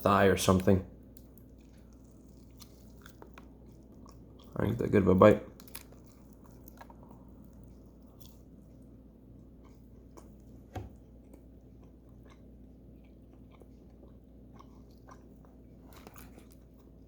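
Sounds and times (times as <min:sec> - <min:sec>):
person chewing food: 0:01.0 - 0:04.7, 0:05.4 - 0:17.0.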